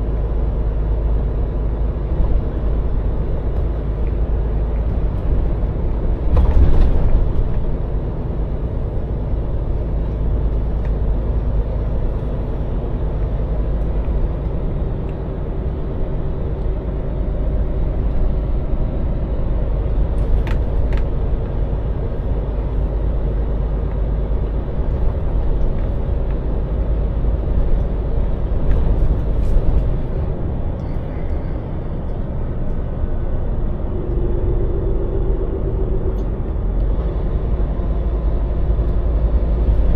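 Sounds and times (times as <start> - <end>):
lorry engine rumble: 0.0 - 39.9
road noise: 0.0 - 39.9.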